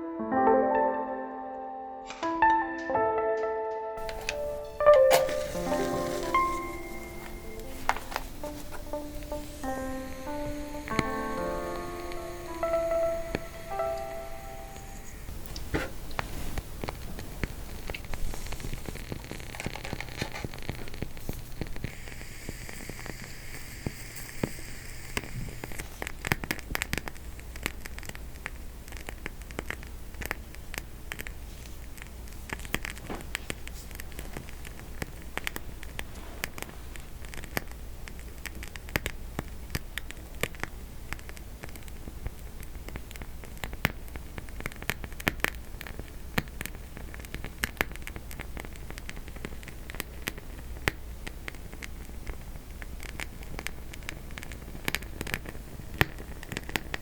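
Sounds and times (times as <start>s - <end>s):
candle wick crackling: 4.0s - 57.0s.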